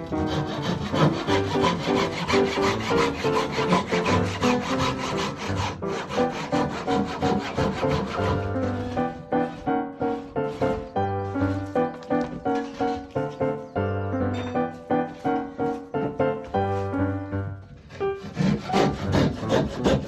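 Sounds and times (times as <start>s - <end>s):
wood being sawn: 0.0s - 13.7s, 15.0s - 20.0s
background music: 0.0s - 20.0s.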